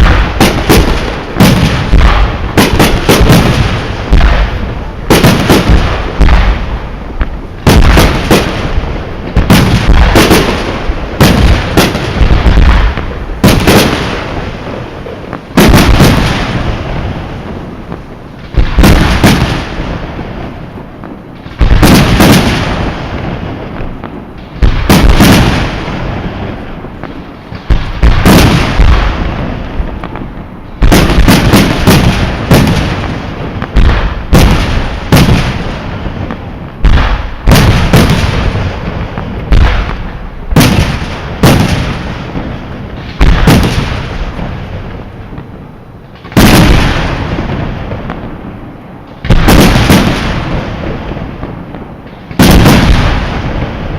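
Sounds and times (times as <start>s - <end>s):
fireworks bursting with echoing rumble: 0.0s - 53.9s.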